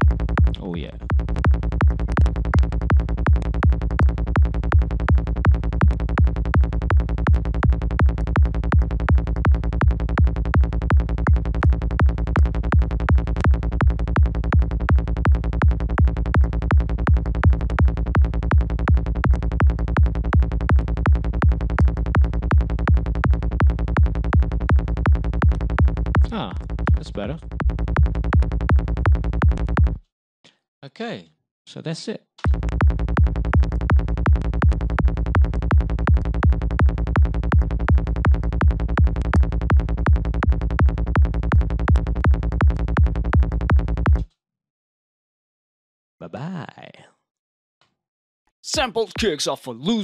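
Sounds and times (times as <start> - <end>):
psytrance kick and bass loop: 0.0 - 30.0, 32.5 - 44.3, 48.7 - 49.5.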